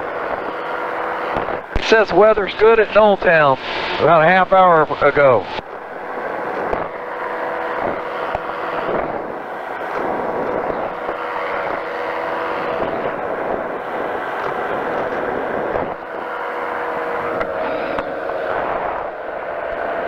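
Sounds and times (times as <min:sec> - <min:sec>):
broad rushing noise: 0:00.0 - 0:20.0
propeller engine droning: 0:00.0 - 0:20.0.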